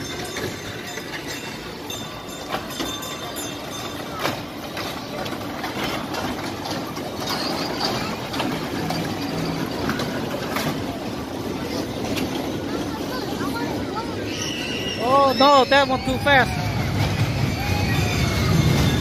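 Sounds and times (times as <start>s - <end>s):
roller coaster track clacks: 0.0s - 19.0s
roller coaster wheels rumbling: 0.0s - 19.0s.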